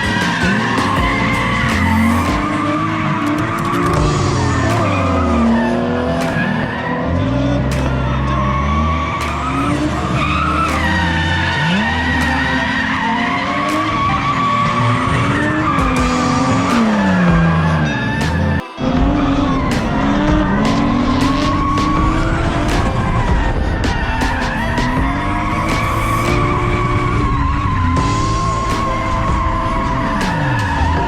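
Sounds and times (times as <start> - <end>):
car engine revving: 0.0 - 31.0
tyres squealing: 0.0 - 31.0.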